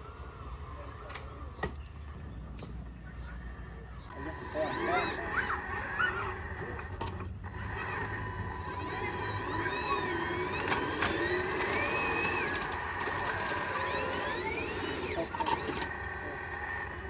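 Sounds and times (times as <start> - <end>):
small electric motors whining: 0.0 - 17.0.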